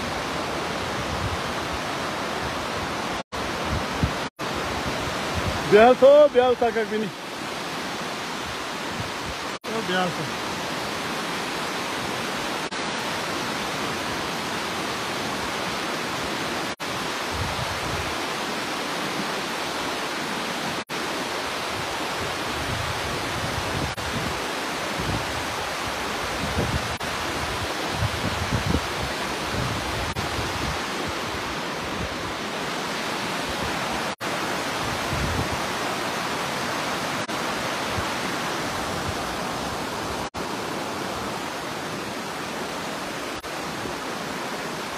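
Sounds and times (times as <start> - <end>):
flooded river rushing: 0.0 - 44.9.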